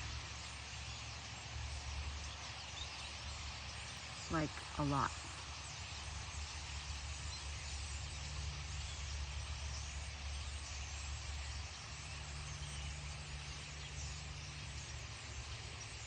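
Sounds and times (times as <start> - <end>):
flock of birds chattering: 0.0 - 16.0.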